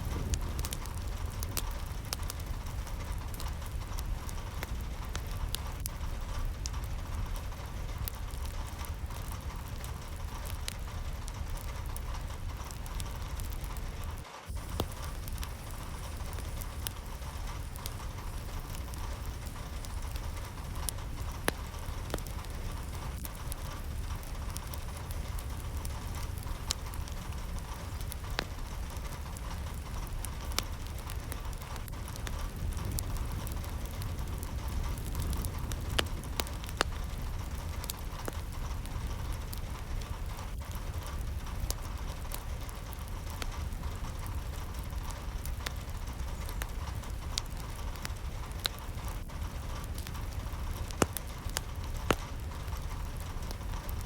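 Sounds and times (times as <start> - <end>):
constant low rumble: 0.0 - 54.0
steady rain: 0.0 - 54.0.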